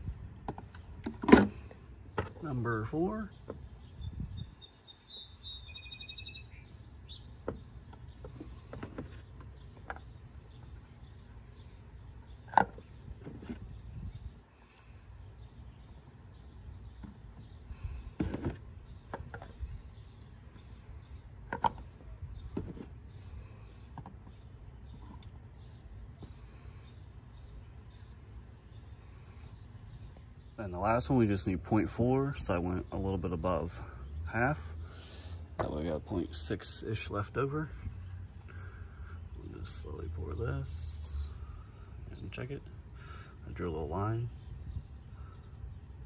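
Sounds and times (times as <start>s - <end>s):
bird chirping: 0.0s - 46.0s
outdoor background noise: 0.0s - 46.0s.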